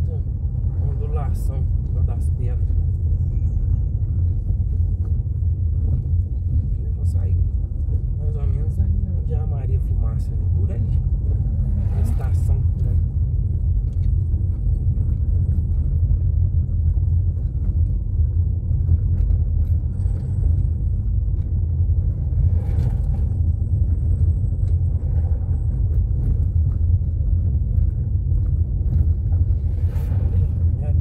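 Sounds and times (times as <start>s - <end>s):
car tyres rumbling on cobblestones: 0.0s - 31.0s.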